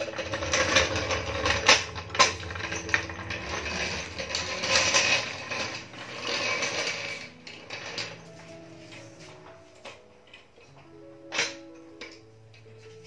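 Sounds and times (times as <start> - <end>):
floor jack wheels rattling on concrete: 0.0 - 12.2.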